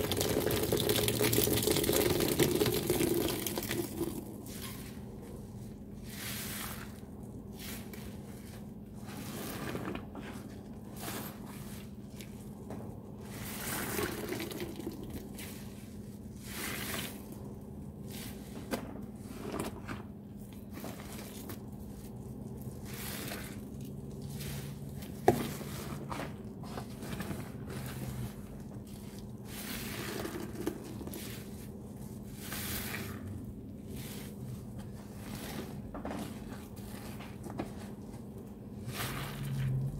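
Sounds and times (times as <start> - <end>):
wet sponges squelching: 0.0 - 39.9.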